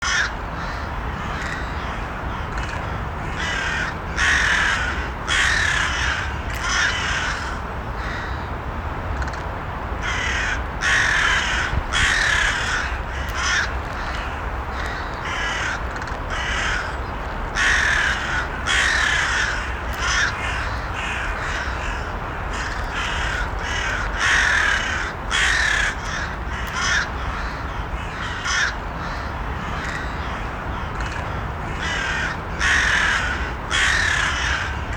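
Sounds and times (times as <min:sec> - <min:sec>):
crows cawing: 0:00.0 - 0:08.5, 0:10.0 - 0:34.9
low background noise: 0:00.0 - 0:34.9.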